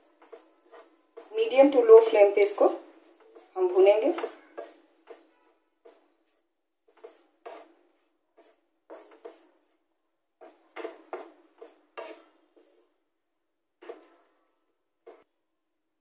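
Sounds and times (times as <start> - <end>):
wooden spatula scraping a pan: 0.0 - 13.1, 13.8 - 15.3.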